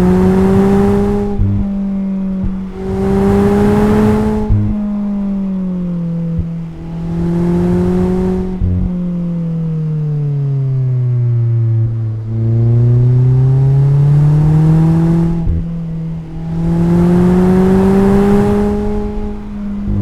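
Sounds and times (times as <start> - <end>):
car engine and exhaust revving: 0.0 - 20.0.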